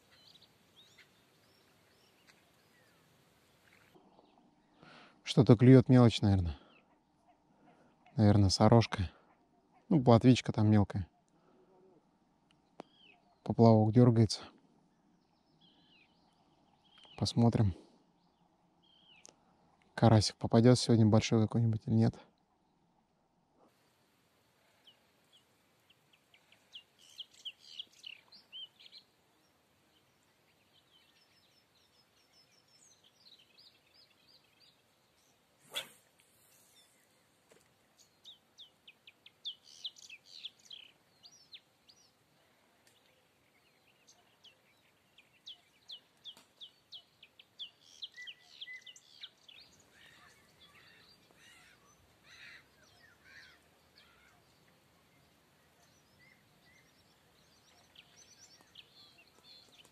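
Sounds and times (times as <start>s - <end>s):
small birds chirping: 0.0s - 23.1s, 24.4s - 59.9s.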